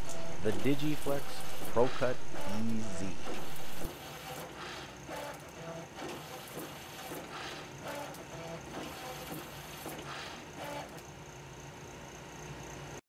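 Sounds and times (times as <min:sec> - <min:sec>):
label cutting machine cycling: 0:00.0 - 0:11.2.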